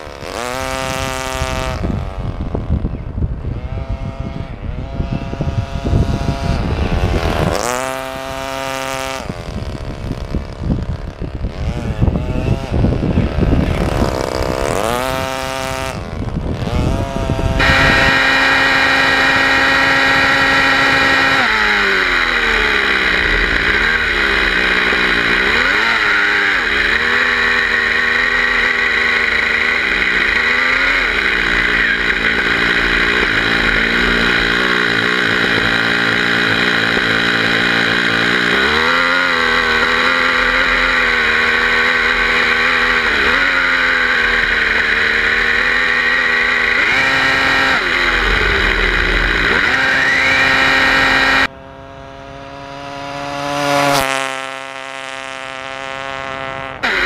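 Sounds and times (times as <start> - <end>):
distant engine buzz: 0.0 - 57.0
model car engine revving: 0.0 - 57.0.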